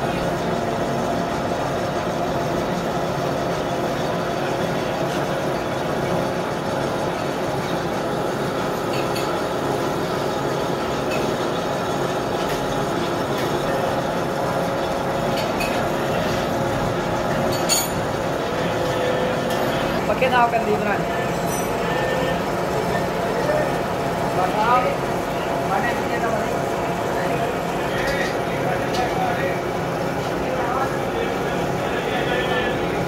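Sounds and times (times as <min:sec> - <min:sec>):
gear cutting machine droning: 0:00.0 - 0:33.0.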